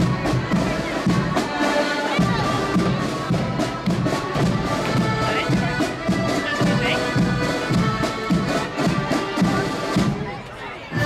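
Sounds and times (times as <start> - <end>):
side drums beating: 0.0 - 10.4
accordions playing march: 0.0 - 11.0.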